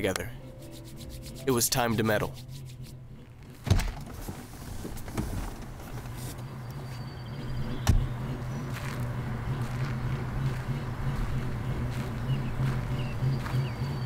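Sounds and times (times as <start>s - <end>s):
car engine running low: 2.6s - 14.0s.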